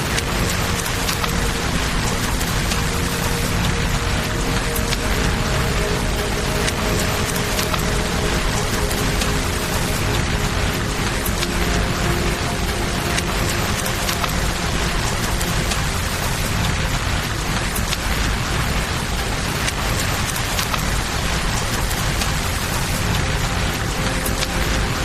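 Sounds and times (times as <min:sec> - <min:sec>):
campfire crackles: 0:00.0 - 0:25.0
river flowing: 0:00.0 - 0:25.0
steady rain: 0:00.0 - 0:25.0.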